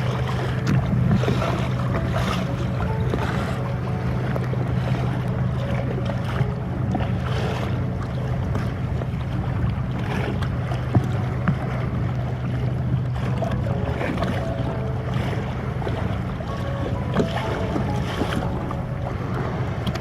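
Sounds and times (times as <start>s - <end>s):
water sloshing around a kayak: 0.0s - 20.0s
wind on microphone: 0.0s - 20.0s.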